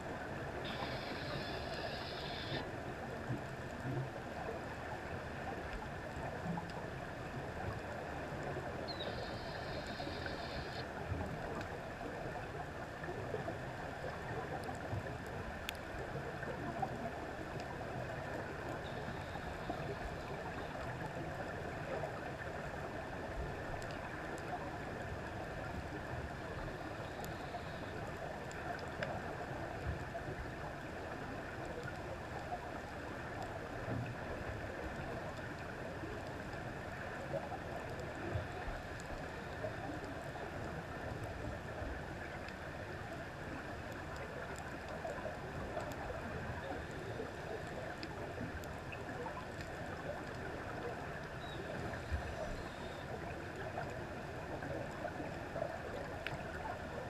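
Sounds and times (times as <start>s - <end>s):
muffled underwater water noise: 0.0s - 57.0s
faint underwater clicks: 0.2s - 57.0s.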